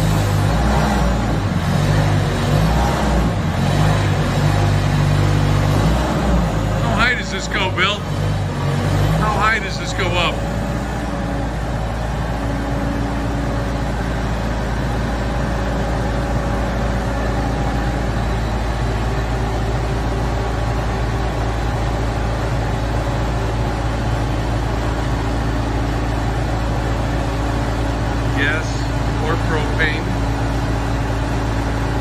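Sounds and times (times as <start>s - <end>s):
forklift engine running: 0.0s - 32.0s.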